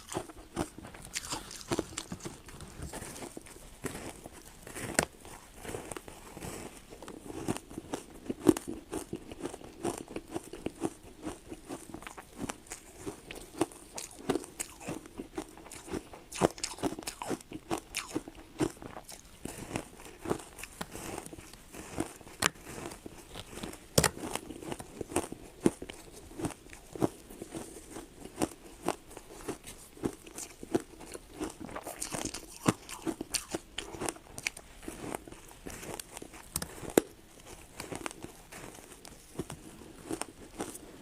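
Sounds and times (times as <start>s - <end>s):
ice being chewed: 0.0s - 41.0s.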